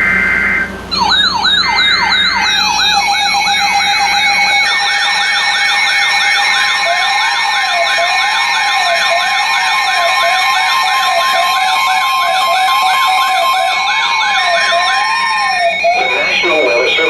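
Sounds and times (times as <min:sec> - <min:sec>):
fast yelp siren: 0:00.0 - 0:17.0
slow wail siren: 0:00.0 - 0:17.0
steady siren tones: 0:00.0 - 0:17.0.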